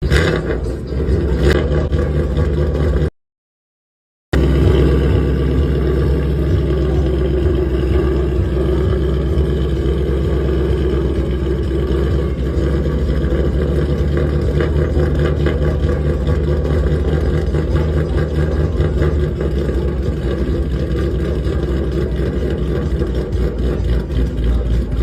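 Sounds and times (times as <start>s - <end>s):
car engine running: 0.0s - 3.2s, 4.3s - 25.0s.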